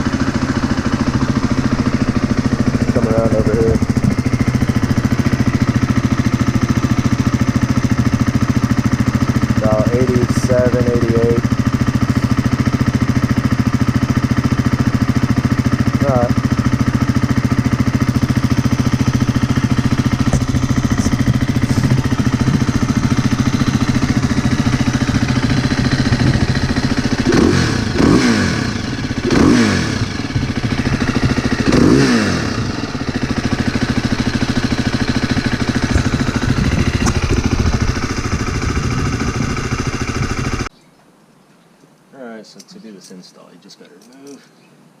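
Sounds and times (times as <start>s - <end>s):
engine throttle blips: 0.0s - 40.7s
motorcycle engine idling: 0.0s - 40.7s.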